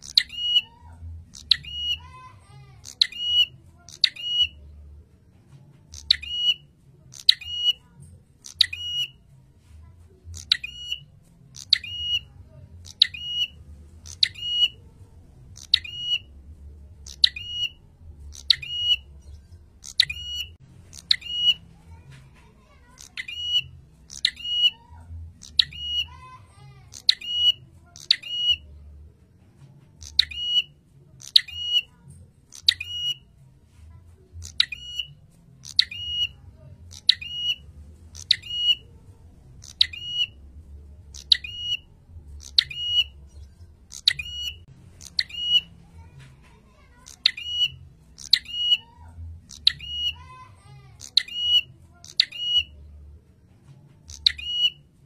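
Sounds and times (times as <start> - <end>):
small bird calling shrilly: 0.0 - 4.6, 5.9 - 9.2, 10.3 - 14.8, 15.5 - 16.3, 17.0 - 28.8, 30.0 - 33.3, 34.4 - 39.0, 39.6 - 40.4, 41.1 - 52.8, 54.1 - 54.9.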